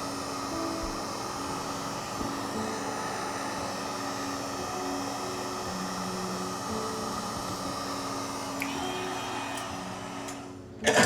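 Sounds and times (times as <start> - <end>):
hot-air blower whirring: 0.0 - 11.0.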